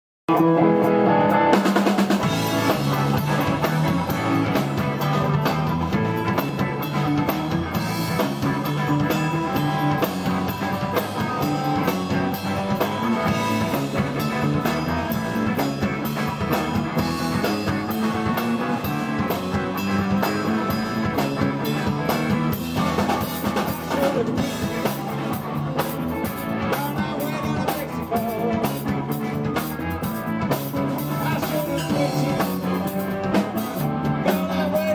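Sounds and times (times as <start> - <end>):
bass guitar: 0.3 - 34.9
drum kit: 0.3 - 34.9
electric guitar: 0.3 - 34.9.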